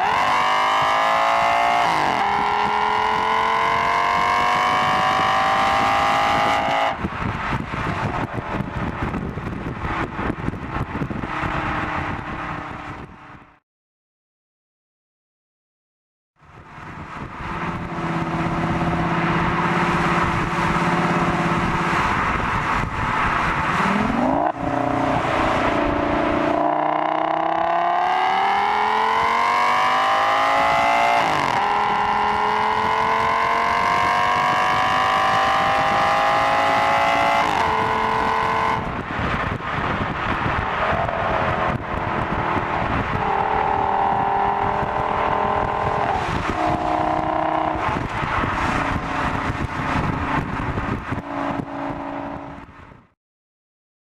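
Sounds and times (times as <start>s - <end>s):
car engine accelerating hard: 0.0s - 13.2s, 16.6s - 52.7s.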